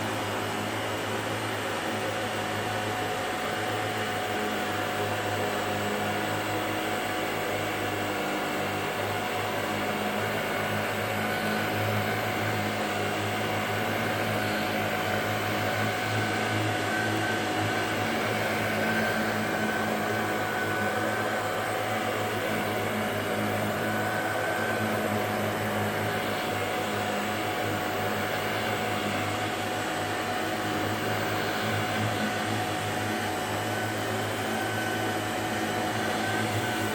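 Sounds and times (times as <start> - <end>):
vacuum cleaner running: 5.0 - 36.9.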